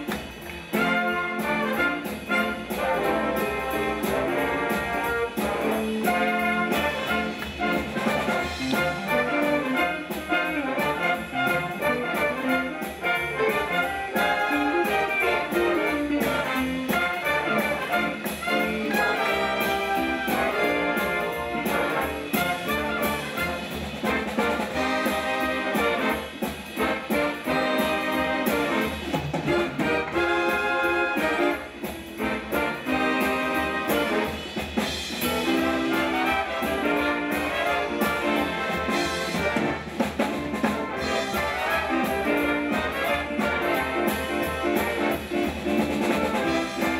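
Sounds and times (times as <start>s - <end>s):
big band playing swing: 0.0s - 46.9s
brass ensemble riffs: 0.0s - 46.9s.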